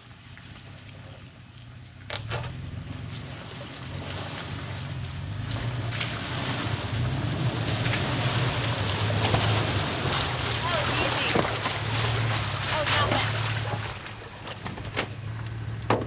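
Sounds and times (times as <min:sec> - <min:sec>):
engine pulling at low speed: 0:00.0 - 0:16.0
water and mud splashing: 0:00.0 - 0:16.0.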